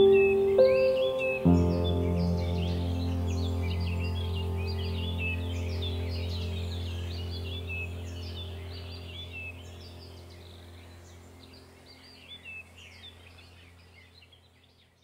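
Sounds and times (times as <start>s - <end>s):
small birds chirping: 0.0s - 15.0s
steady low hum: 1.3s - 14.5s.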